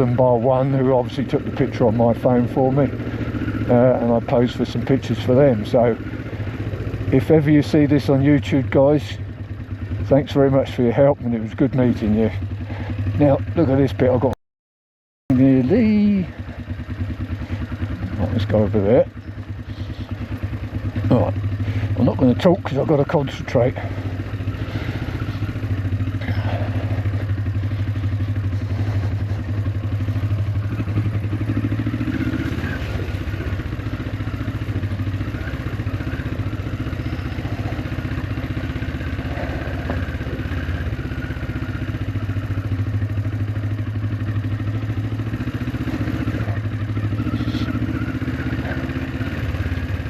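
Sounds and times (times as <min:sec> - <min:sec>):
motorcycle engine running at low revs: 0:00.0 - 0:14.4, 0:15.3 - 0:50.0.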